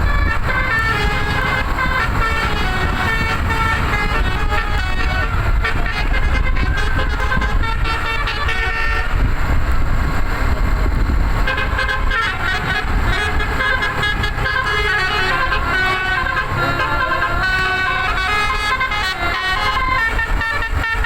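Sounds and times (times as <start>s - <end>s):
bus horn playing a melody: 0.0s - 9.7s, 11.3s - 21.0s
low engine rumble: 0.0s - 21.0s.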